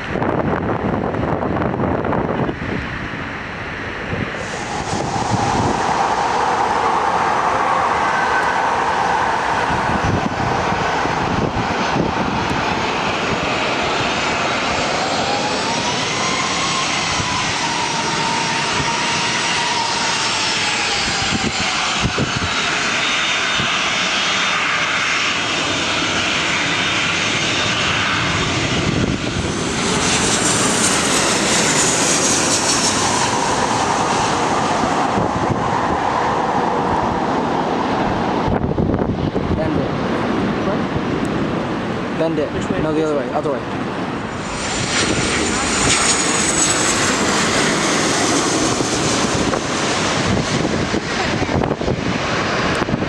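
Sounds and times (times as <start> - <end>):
engine whine bending in pitch: 0.0 - 53.0
jet airliner engines passing: 0.0 - 53.0.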